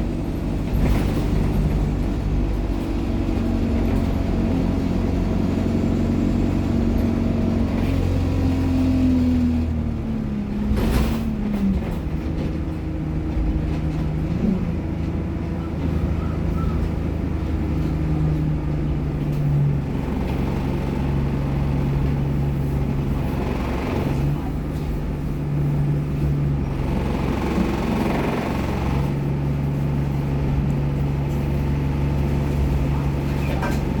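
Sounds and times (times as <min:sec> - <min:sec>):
bus engine rumble: 0:00.0 - 0:34.0.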